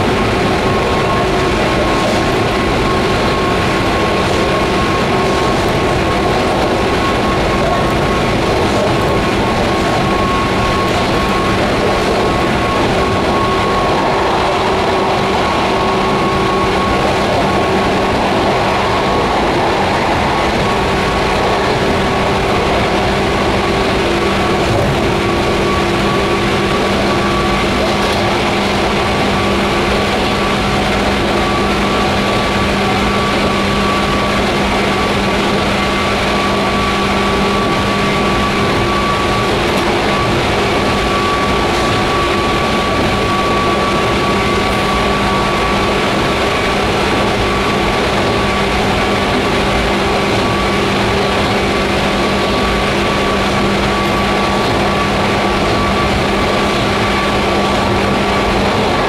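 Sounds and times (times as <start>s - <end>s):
faint high whine: 0.0s - 59.0s
train cabin rumble: 0.0s - 59.0s.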